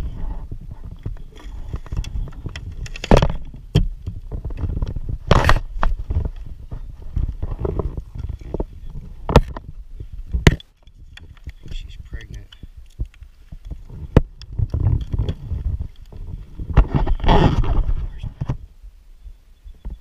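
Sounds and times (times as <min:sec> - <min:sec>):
steady low rumble: 0:00.0 - 0:19.6.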